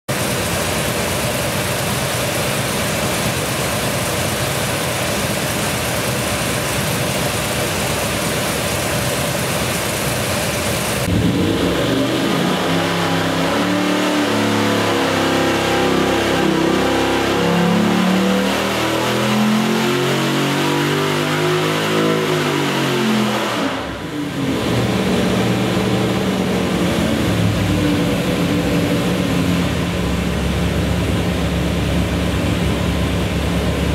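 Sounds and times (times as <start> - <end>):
car engine revving on dyno: 0.1 - 33.9.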